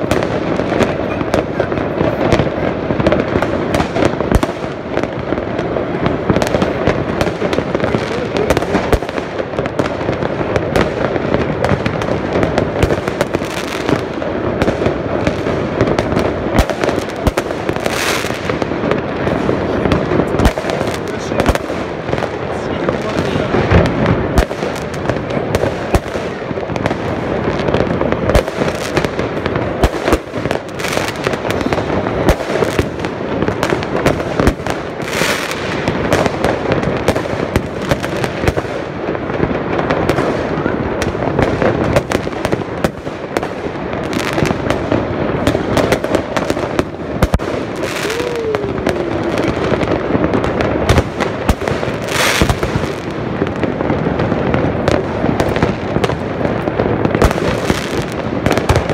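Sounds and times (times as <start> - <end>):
fireworks bangs and pops: 0.0 - 58.9.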